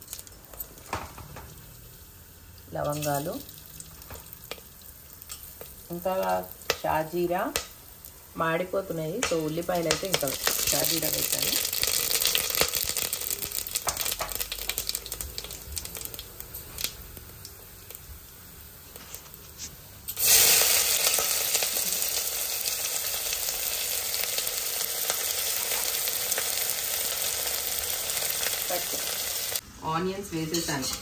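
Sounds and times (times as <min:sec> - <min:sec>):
onions sizzling loudly in oil: 0:00.0 - 0:31.0
spices sizzling in hot oil: 0:00.0 - 0:31.0.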